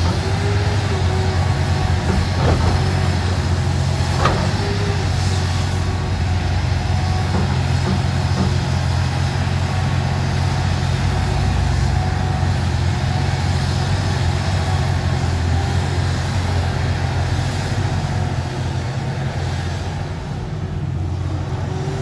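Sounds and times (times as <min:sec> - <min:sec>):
excavator diesel engine droning: 0:00.0 - 0:22.0.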